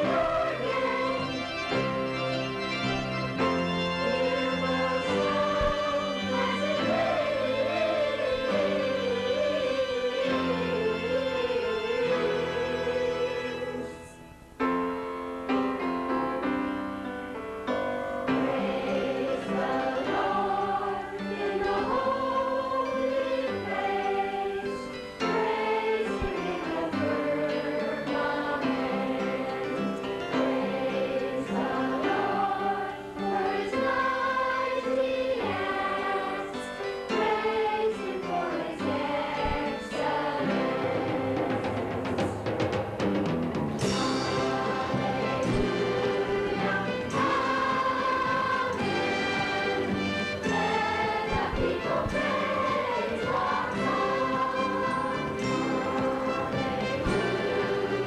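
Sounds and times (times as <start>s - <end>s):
youth choir singing: 0.0s - 14.2s, 15.6s - 42.6s, 43.8s - 58.0s
instrumental accompaniment: 0.0s - 58.0s.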